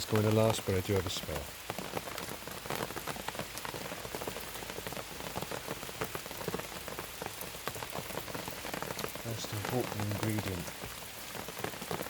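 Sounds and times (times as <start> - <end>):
rain drops ticking on a surface: 0.0 - 12.0.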